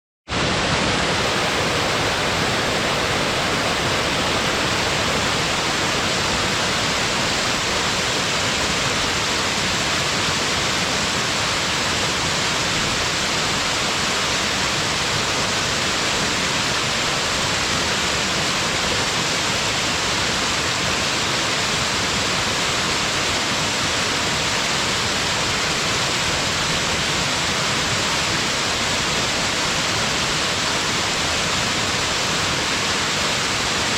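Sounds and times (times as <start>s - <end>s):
waterfall rushing: 0.3s - 33.9s.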